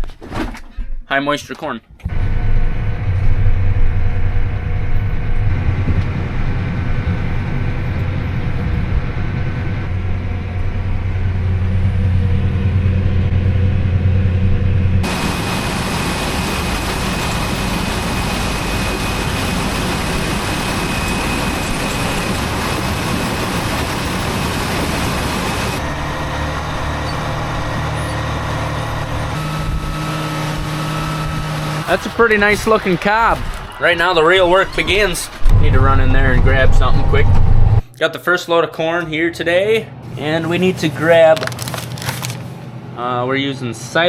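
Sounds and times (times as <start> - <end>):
machinery engine drone: 2.0 - 37.9
rushing machine noise: 2.1 - 37.8.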